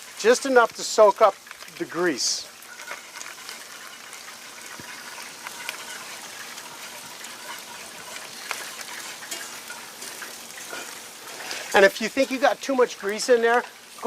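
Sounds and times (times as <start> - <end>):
grease sizzling in a skillet: 0.0 - 14.0.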